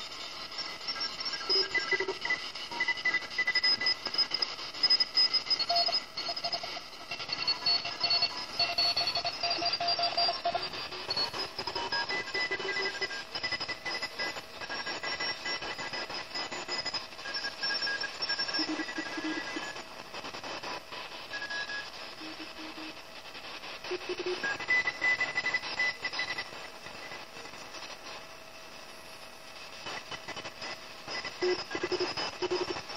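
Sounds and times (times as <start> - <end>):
radio static hiss: 0.0 - 32.9.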